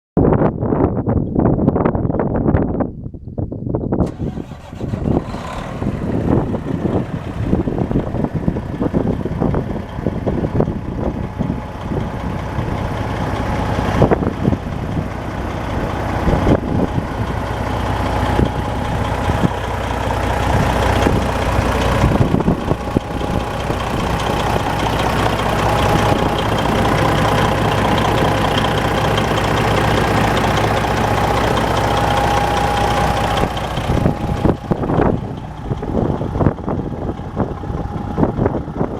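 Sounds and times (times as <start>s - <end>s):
diesel truck engine idling: 4.0s - 38.9s.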